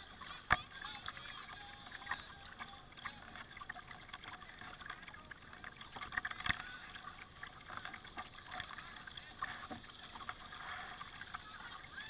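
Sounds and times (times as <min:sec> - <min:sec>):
water trickling off paddle blades: 0:00.0 - 0:12.0.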